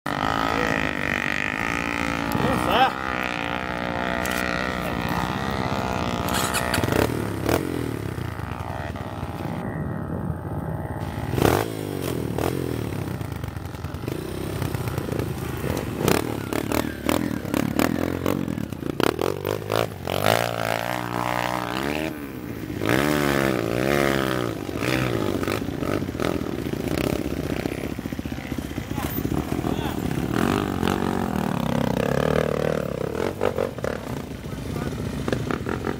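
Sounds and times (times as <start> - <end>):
dirt bike engines revving: 0.1 - 35.9.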